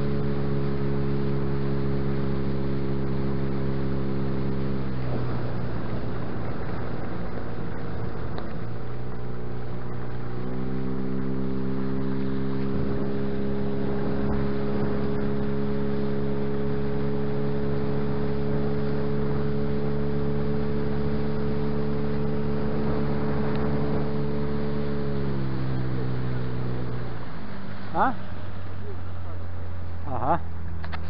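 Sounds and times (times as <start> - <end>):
outboard motor running: 0.0 - 31.0
rushing water: 0.0 - 31.0
wind: 0.0 - 31.0.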